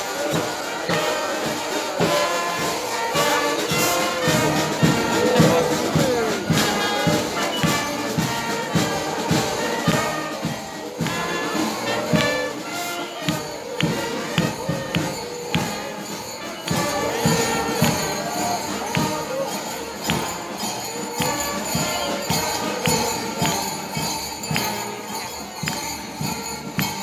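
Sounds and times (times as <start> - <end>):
brass band playing: 0.0 - 27.0
crowd voices: 0.0 - 27.0
drum beat: 0.0 - 27.0.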